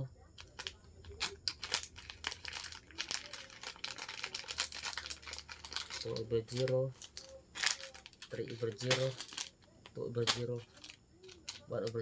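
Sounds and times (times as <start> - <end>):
plastic packaging crinkling: 0.4 - 12.0.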